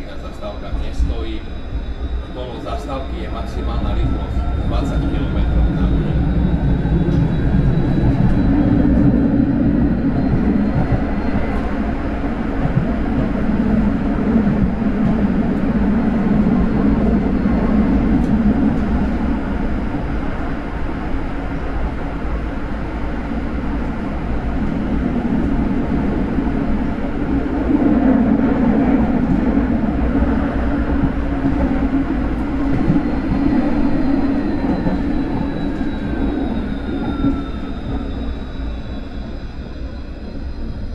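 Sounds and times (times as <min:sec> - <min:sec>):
tram wheels rumbling on rail: 0:00.0 - 0:40.9.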